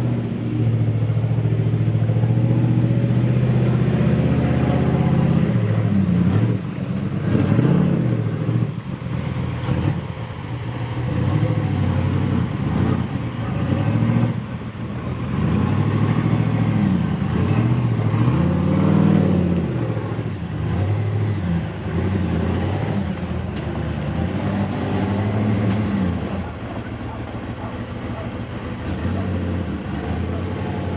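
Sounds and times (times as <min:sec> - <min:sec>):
engine revving: 0:00.0 - 0:30.9.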